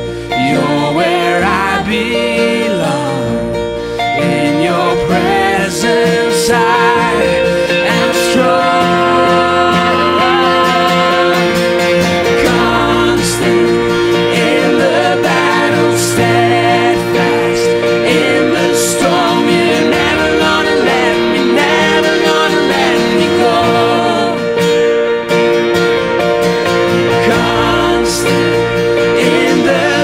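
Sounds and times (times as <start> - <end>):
voices singing: 0.0 - 24.9, 26.8 - 30.0
digital piano: 0.0 - 30.0
strummed acoustic guitars: 0.0 - 30.0.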